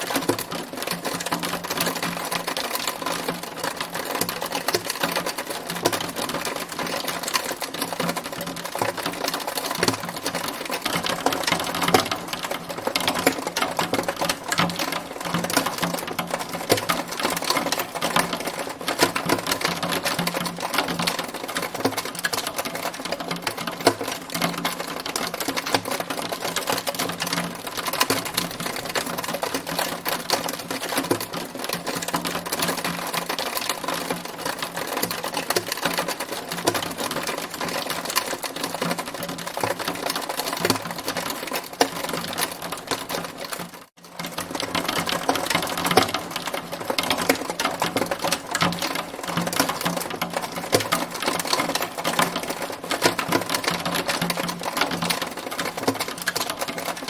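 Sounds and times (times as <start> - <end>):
hail clattering: 0.0 - 57.0.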